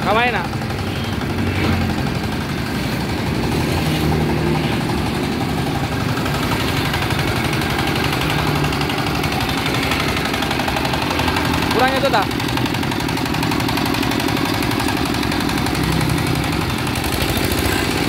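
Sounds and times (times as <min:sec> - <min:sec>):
diesel engine running steadily: 0:00.0 - 0:18.0.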